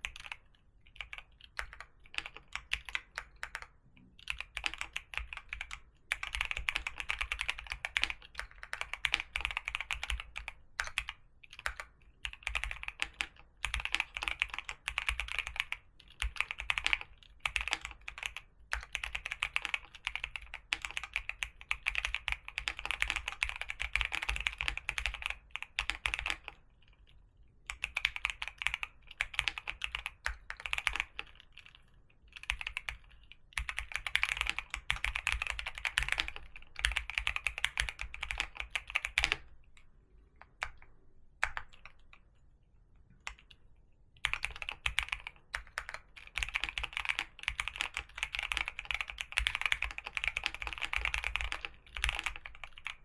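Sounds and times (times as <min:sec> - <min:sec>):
typing on computer keyboard: 0:00.0 - 0:27.1, 0:27.7 - 0:39.5, 0:40.4 - 0:42.2, 0:44.2 - 0:53.0.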